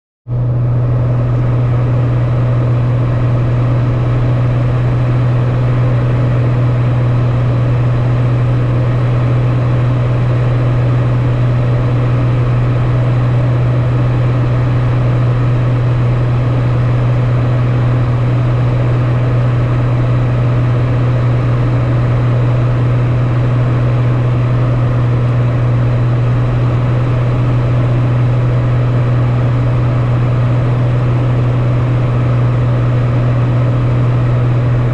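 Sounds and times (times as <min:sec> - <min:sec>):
airplane engine drone: 0:00.3 - 0:34.9.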